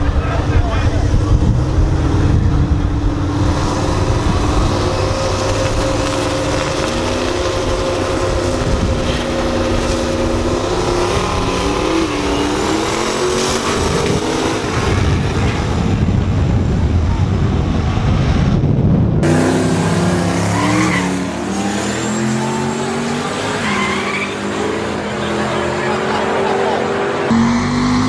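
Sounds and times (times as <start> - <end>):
cars launching: 0.0 - 18.2, 19.2 - 28.0
car engines revving: 0.0 - 28.0.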